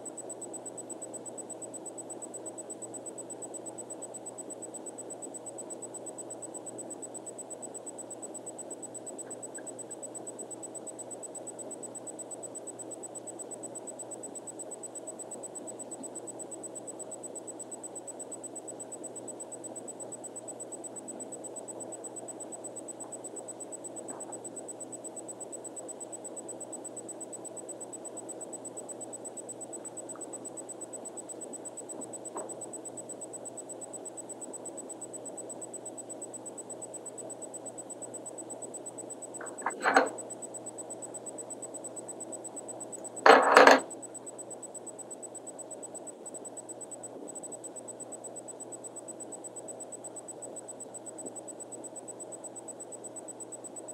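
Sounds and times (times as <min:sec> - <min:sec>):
faint high whine: 0:00.0 - 0:53.9
faint ticks: 0:00.1 - 0:53.9.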